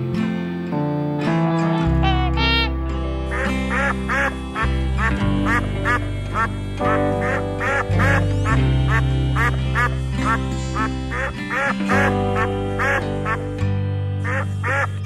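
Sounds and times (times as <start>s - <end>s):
background music: 0.0s - 15.0s
duck quacking: 1.7s - 13.4s, 14.2s - 15.0s.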